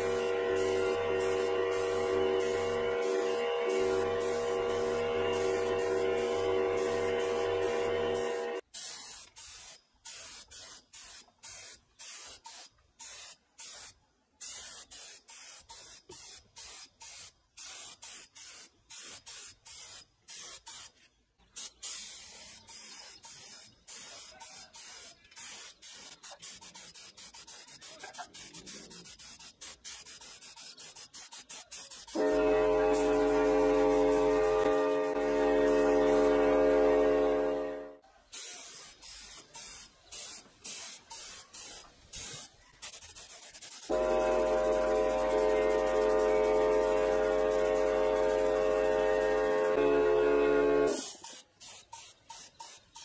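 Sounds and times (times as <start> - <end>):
pressurised spray hissing bursts: 0.0 - 53.0.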